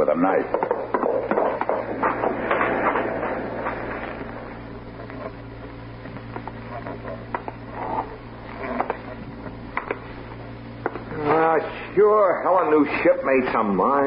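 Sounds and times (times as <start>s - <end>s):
old radio hum and hiss: 0.0s - 14.0s.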